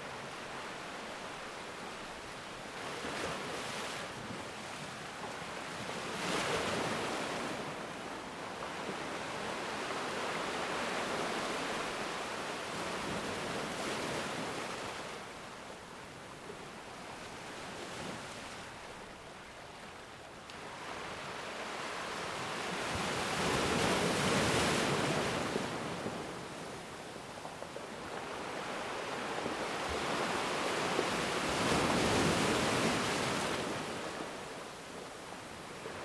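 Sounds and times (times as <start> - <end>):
ocean waves washing onto shore: 0.0 - 36.0.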